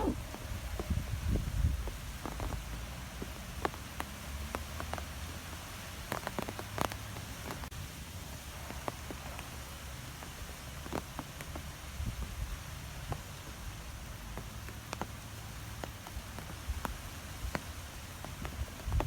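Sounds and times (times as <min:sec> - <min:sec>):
wind blowing through trees: 0:00.0 - 0:19.0.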